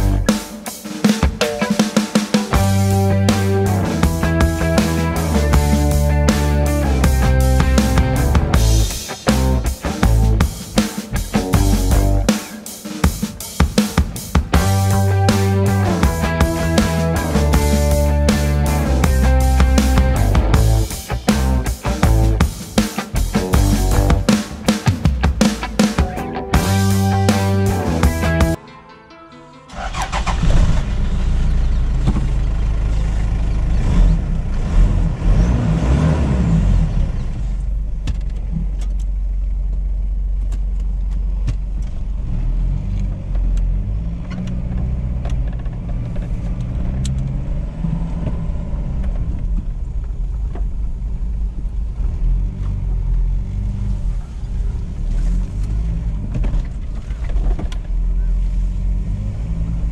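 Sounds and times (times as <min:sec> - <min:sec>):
diesel engine rumble: 0:00.0 - 0:00.3, 0:02.5 - 0:12.3, 0:14.5 - 0:22.6, 0:23.2 - 0:28.6, 0:29.7 - 0:59.9.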